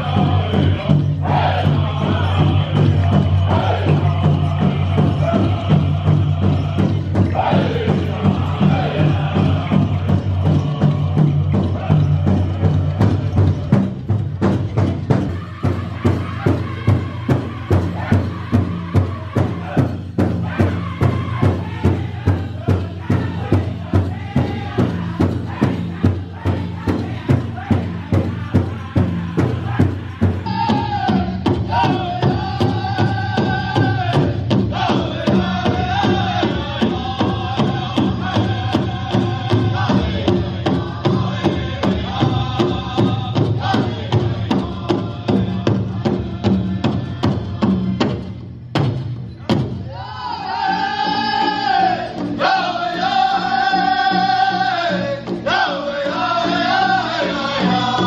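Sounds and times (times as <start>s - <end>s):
group chanting vocals: 0.0s - 48.4s, 49.3s - 58.0s
large drum beat: 0.0s - 55.7s.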